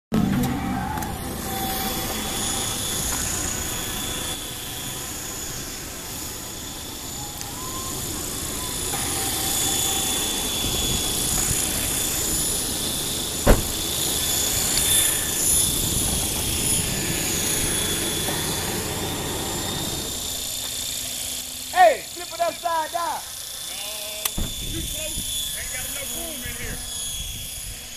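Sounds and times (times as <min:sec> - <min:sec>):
model helicopter motor whine: 0:00.9 - 0:27.9.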